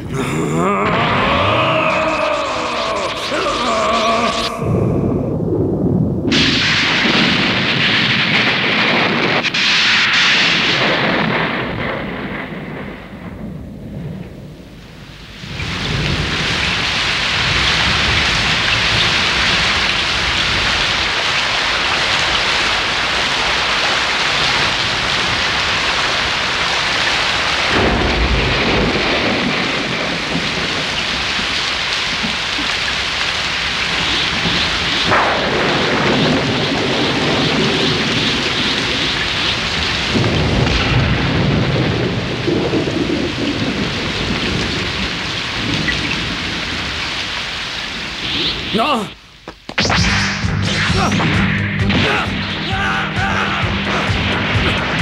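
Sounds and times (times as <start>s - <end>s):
heavy rain pouring: 0.0s - 13.7s, 14.4s - 49.4s, 50.7s - 55.0s
thunder rumbling: 0.0s - 48.8s.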